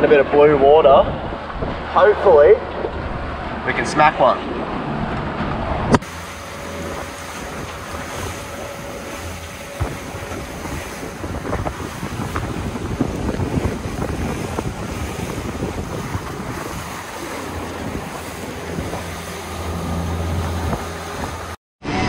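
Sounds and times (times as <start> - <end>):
wind buffeting microphone: 0.0 - 21.6
outboard engine hum: 0.0 - 22.0
rush of boat wake: 0.0 - 22.0.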